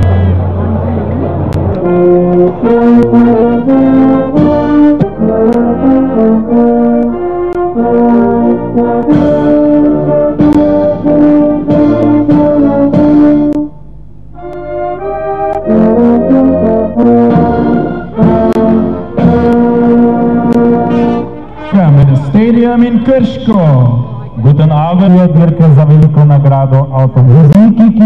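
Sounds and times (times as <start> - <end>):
brass band playing slow melody: 0.0 - 26.3.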